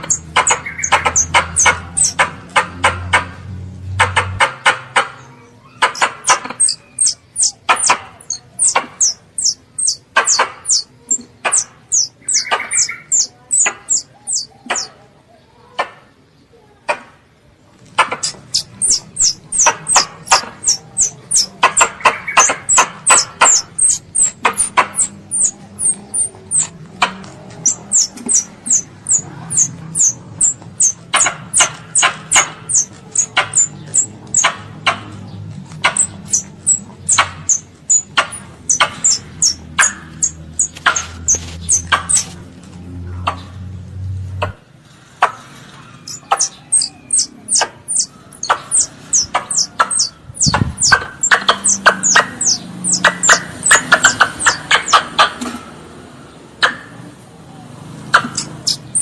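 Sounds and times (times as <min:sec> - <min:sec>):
squirrel squeaking calls: 0:00.0 - 0:15.0, 0:17.8 - 0:42.5, 0:45.2 - 0:55.4, 0:58.1 - 0:59.0.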